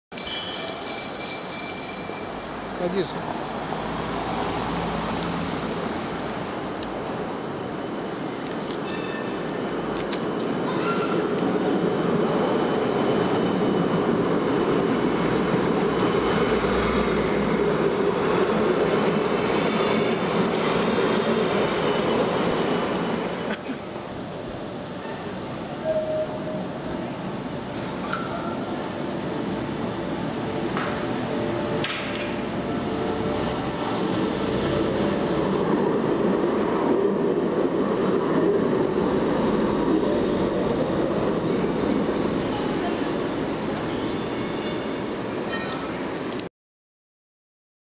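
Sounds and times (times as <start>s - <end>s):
tram rolling past: 0.1s - 46.5s.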